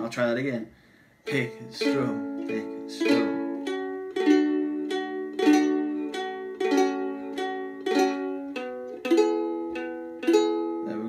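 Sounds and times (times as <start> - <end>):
ukulele pick-strum pattern: 1.2 - 11.0.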